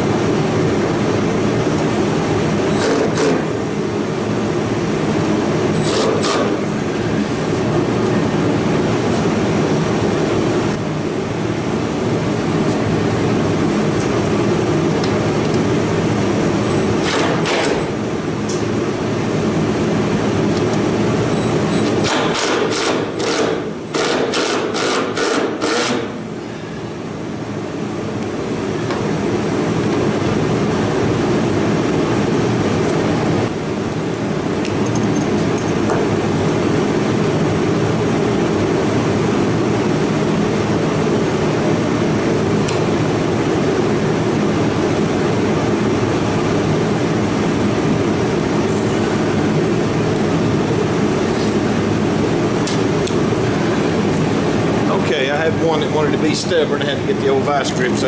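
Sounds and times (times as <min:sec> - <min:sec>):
steady loud hum: 0:00.0 - 0:58.0.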